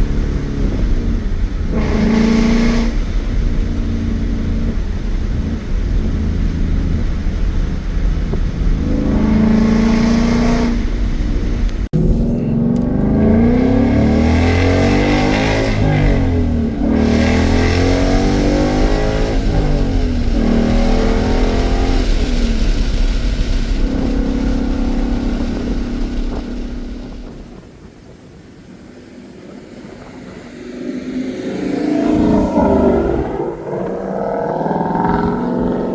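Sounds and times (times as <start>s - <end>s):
car engine revving and accelerating: 0.0s - 27.6s, 29.6s - 35.9s.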